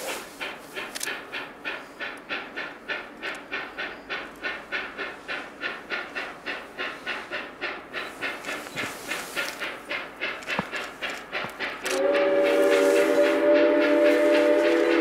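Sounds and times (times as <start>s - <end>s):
steam locomotive exhaust chuffing: 0.0s - 15.0s.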